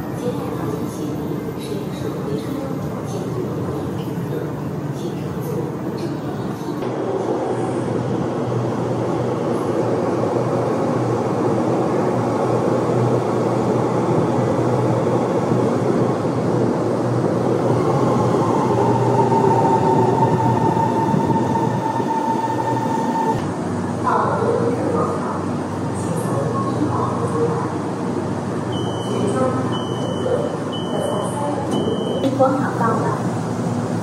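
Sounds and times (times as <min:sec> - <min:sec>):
subway train rumble: 0:00.0 - 0:34.0.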